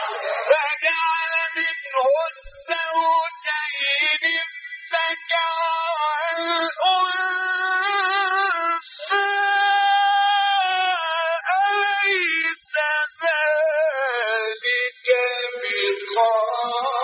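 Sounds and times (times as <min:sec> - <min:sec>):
man chanting melodically: 0:00.4 - 0:17.0.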